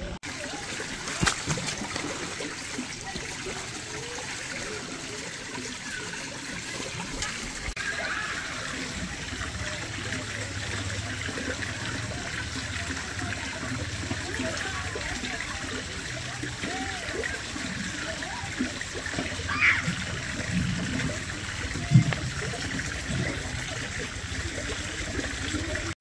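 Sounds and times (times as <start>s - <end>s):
water trickling: 0.2s - 26.0s.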